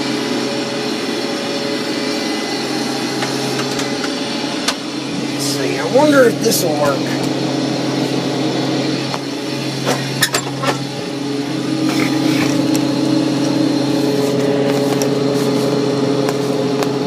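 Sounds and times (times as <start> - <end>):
combine harvester drone: 0.0 - 17.0.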